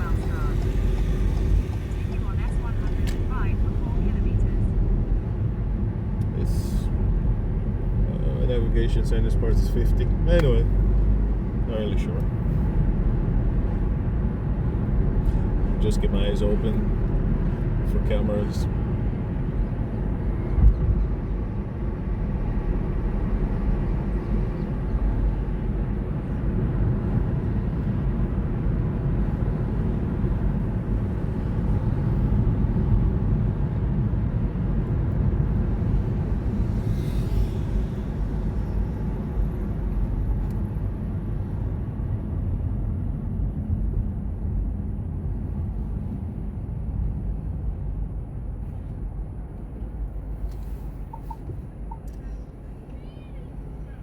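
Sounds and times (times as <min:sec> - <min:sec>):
engine and tyres rumbling: 0:00.0 - 0:54.0.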